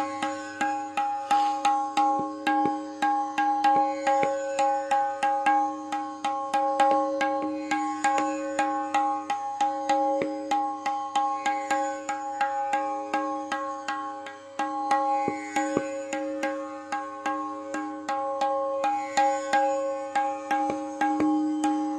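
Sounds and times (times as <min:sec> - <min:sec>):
tabla strokes: 0:00.0 - 0:21.9.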